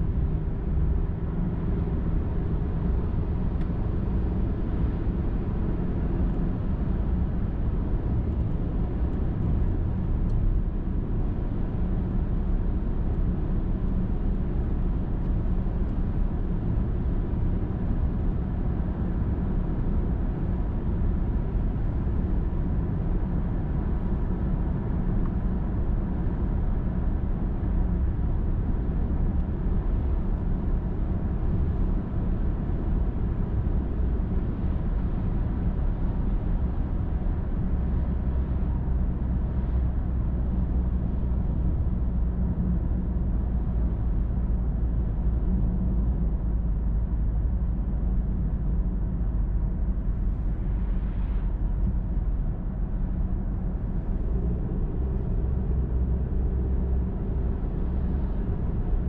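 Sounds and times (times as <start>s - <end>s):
car tyres and engine rumble: 0.0s - 59.0s.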